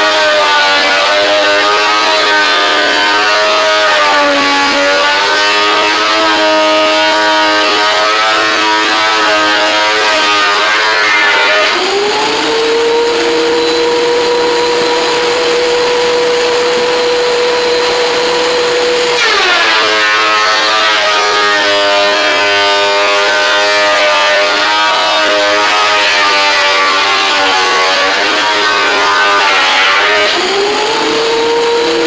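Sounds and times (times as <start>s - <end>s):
planer cutting board: 0.0s - 32.0s
thickness planer whine: 0.0s - 32.0s.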